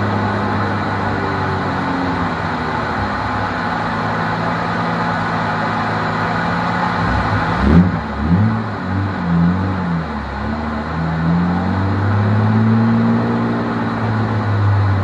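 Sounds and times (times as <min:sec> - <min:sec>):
race car engine running: 0:00.0 - 0:15.0.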